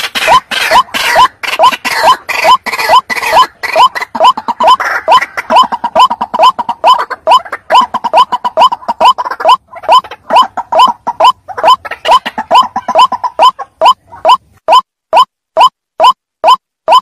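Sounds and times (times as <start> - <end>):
waterhen calling: 0.0 - 15.3.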